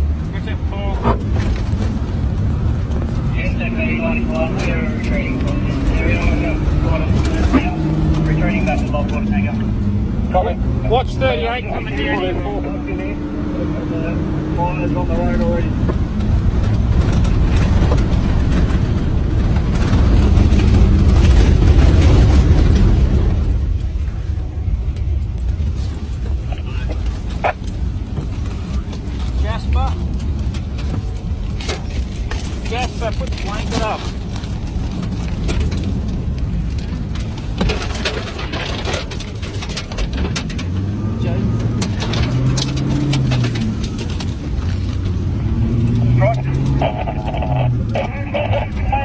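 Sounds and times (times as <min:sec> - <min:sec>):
bushfire roaring with wind: 0:00.0 - 0:49.0
truck engine running: 0:00.0 - 0:49.0.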